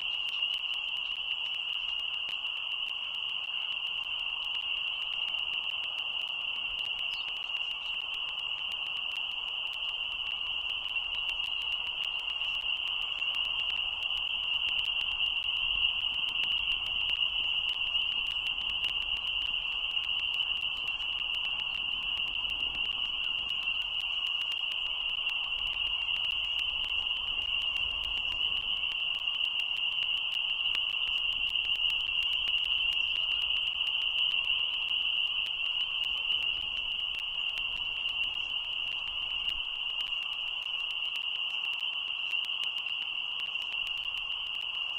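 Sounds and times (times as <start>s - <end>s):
frogs peeping: 3.5s - 44.9s.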